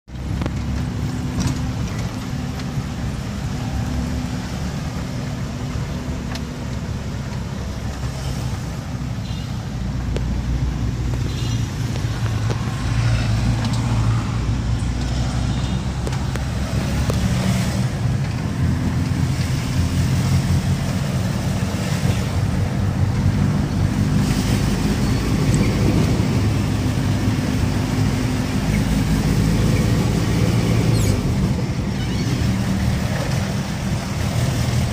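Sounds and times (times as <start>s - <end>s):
vehicle engine and road noise: 0.0s - 34.9s.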